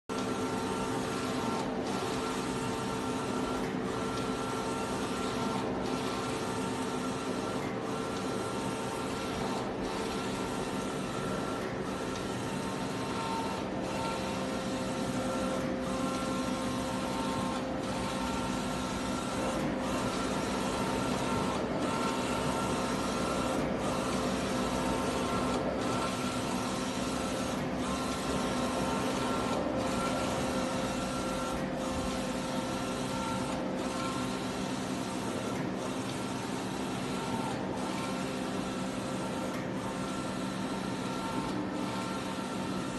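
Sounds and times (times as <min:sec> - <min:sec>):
printing machine humming: 0:00.1 - 0:42.9.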